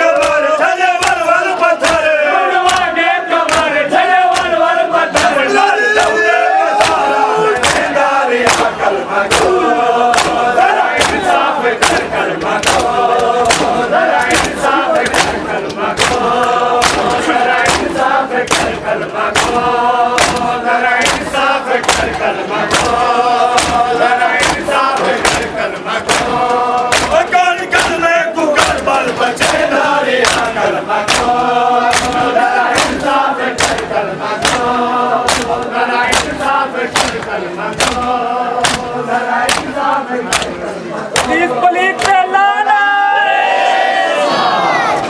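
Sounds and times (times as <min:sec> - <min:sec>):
men chanting in unison: 0:00.0 - 0:44.9
hands slapping on bare chests: 0:00.1 - 0:00.4, 0:01.0 - 0:01.2, 0:01.8 - 0:05.4, 0:06.8 - 0:40.6, 0:41.2 - 0:41.4, 0:42.0 - 0:42.2.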